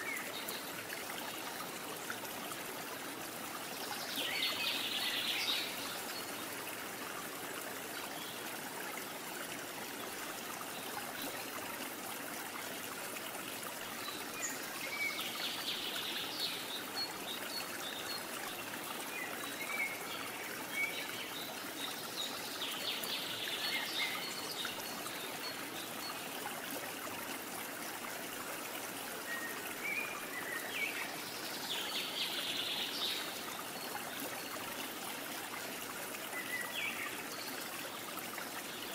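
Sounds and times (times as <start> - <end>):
trickling stream: 0.0 - 38.9.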